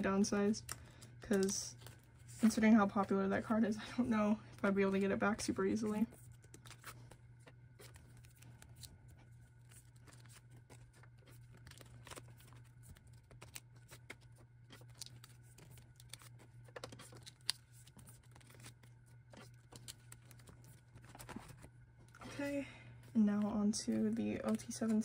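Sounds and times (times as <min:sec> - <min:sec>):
plastic sleeves rustling and crinkling: 0:00.0 - 0:25.0
steady low hum: 0:00.0 - 0:25.0.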